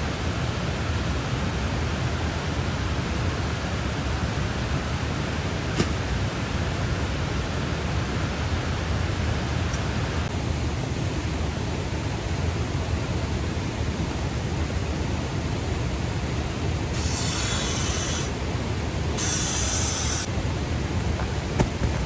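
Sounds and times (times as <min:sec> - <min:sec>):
waterfall: 0:00.0 - 0:22.0.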